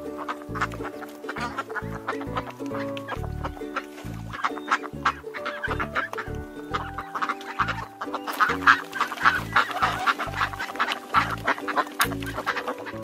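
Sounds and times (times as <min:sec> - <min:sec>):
background music: 0:00.0 - 0:13.0
ducks quacking: 0:00.0 - 0:13.0.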